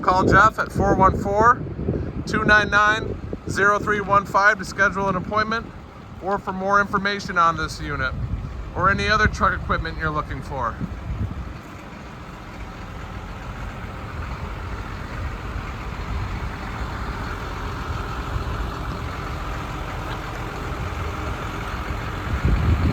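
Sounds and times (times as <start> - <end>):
truck diesel engine idling: 0.0 - 22.9.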